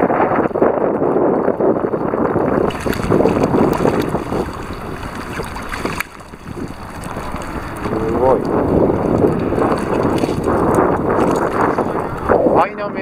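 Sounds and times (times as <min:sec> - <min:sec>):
sea water splashing on concrete: 0:00.0 - 0:13.0
wind buffeting microphone: 0:00.0 - 0:13.0.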